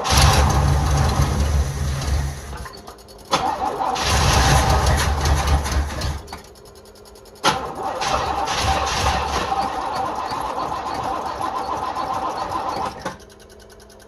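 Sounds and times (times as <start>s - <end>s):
starter cranking engine: 0.0s - 2.7s, 3.3s - 6.4s, 7.4s - 13.3s.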